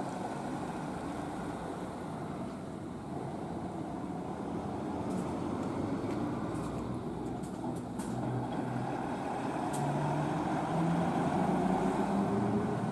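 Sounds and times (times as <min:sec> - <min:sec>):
diesel bus driving past: 0:00.0 - 0:12.9.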